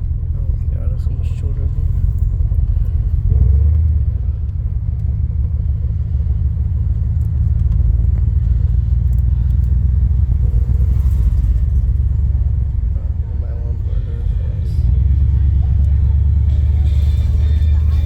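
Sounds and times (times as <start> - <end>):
car engine and exhaust running: 0.0 - 18.0.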